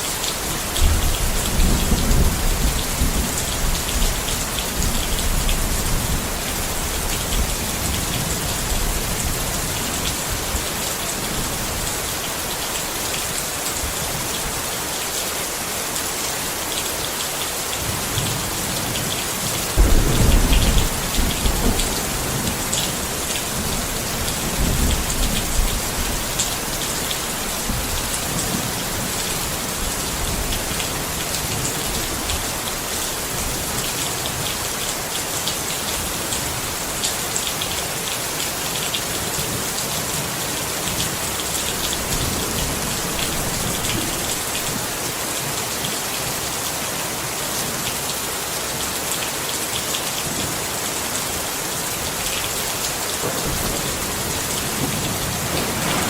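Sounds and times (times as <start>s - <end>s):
rain on a tent: 0.0s - 56.0s.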